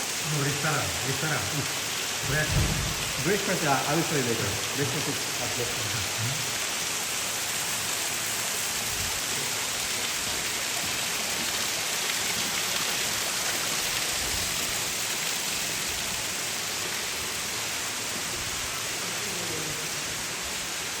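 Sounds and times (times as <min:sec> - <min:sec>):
indoor waterfall rushing: 0:00.0 - 0:21.0.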